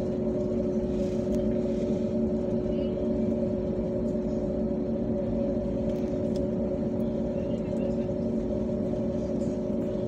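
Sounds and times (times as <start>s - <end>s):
jet engines humming in cabin: 0.0s - 10.0s.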